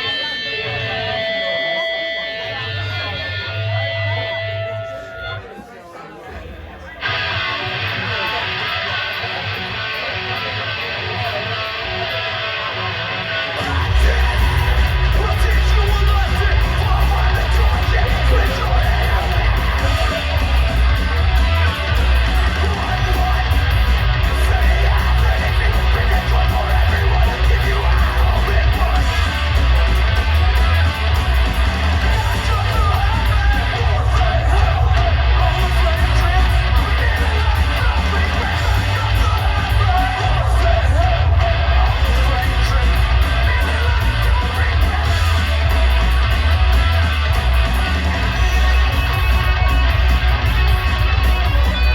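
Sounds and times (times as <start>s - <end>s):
electric guitar: 0.0s - 5.6s, 6.9s - 51.9s
rock band with bass and drums: 0.0s - 51.9s
yelled vocals: 6.4s - 51.9s.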